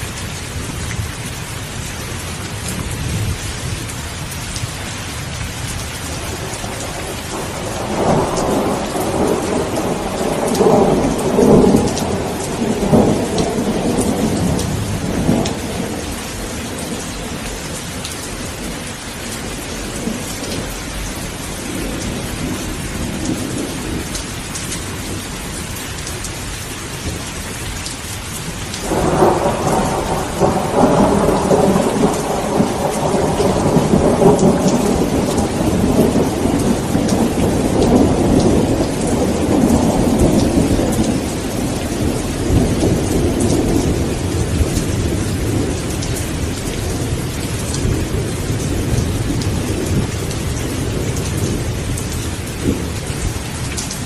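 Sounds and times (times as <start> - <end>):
steady rain: 0.0 - 54.0
thunder rumbling: 5.2 - 25.3, 28.7 - 54.0.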